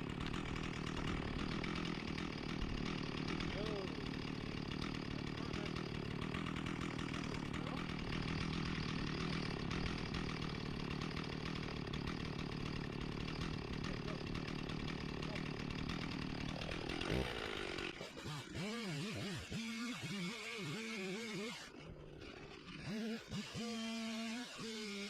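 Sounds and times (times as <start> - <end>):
chainsaw running: 0.0 - 25.0.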